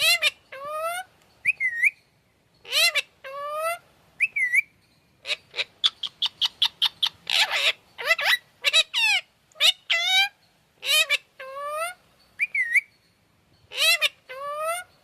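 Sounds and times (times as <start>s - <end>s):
parrot chirping and squawking: 0.0s - 2.0s, 2.6s - 12.9s, 13.7s - 15.0s.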